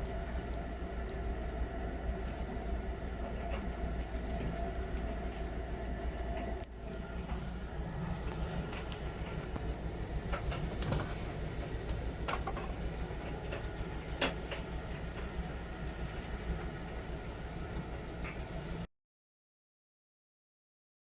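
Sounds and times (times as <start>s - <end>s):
washing machine rumbling: 0.0s - 18.9s.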